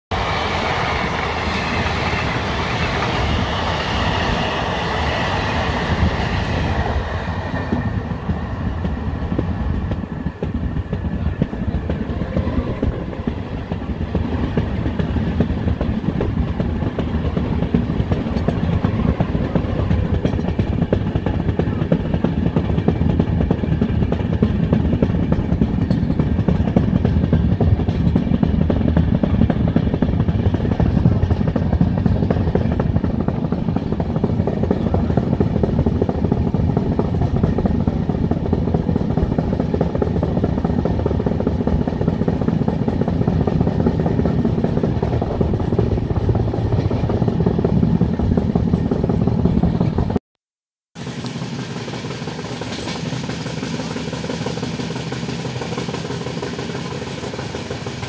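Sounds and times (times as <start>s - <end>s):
passing train rushing: 0.1s - 50.2s, 51.0s - 58.0s
train wheels rumbling on rail: 0.1s - 50.2s, 51.0s - 58.0s.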